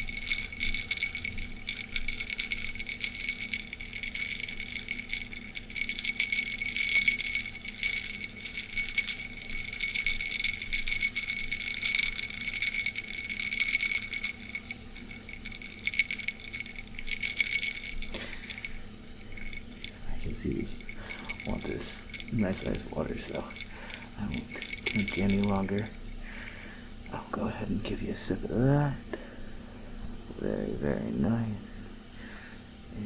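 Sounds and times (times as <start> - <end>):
ice cubes clinking in glass: 0.0 - 27.2.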